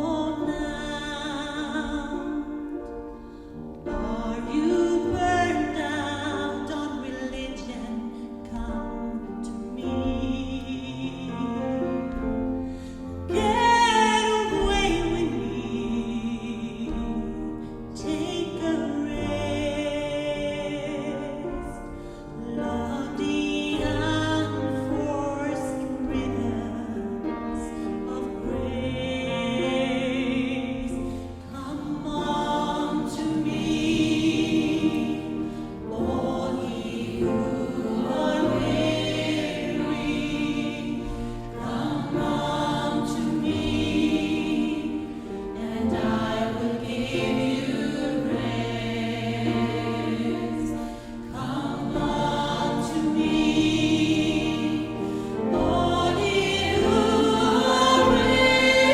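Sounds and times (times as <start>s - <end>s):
gospel choir singing: 0.0s - 58.9s.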